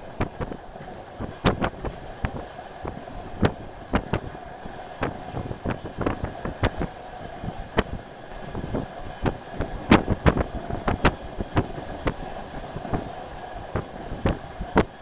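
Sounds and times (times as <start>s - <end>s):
train running drone: 0.0s - 15.0s.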